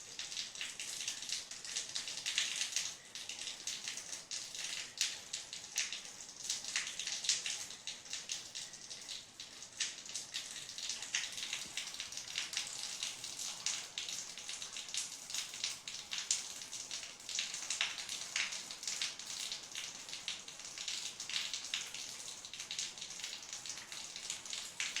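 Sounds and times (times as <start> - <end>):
rain pattering: 0.0 - 25.0.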